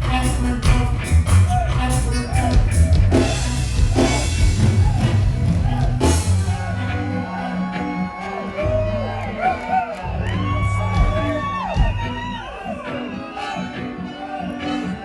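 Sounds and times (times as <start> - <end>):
reggae band playing: 0.0 - 15.0.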